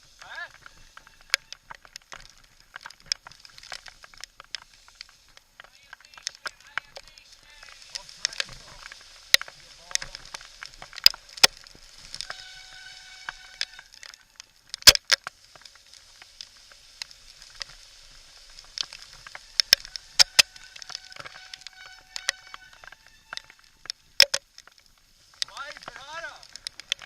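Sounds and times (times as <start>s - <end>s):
bike knocking and rattling over rocks: 0.0s - 14.0s, 14.6s - 27.0s
steady hiss: 0.0s - 27.0s.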